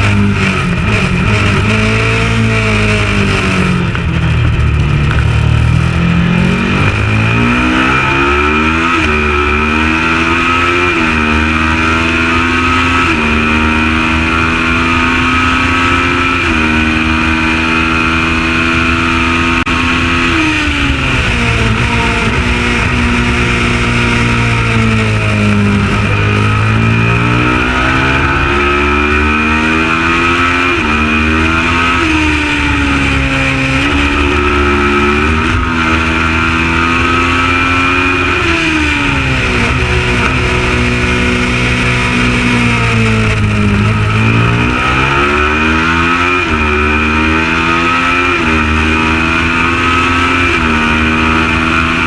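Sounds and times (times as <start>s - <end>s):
race bike engine at high revs: 0.0s - 52.0s.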